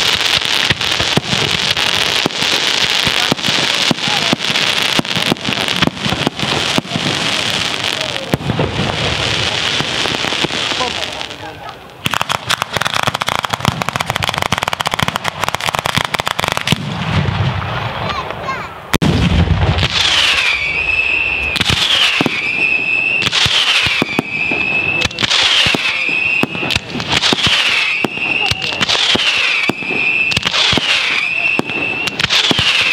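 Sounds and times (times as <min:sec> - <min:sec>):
whistling firework shots: 0:00.0 - 0:17.8, 0:18.9 - 0:32.9
deep firework boom: 0:00.0 - 0:18.1, 0:18.9 - 0:32.8
firecrackers crackling: 0:00.0 - 0:32.9.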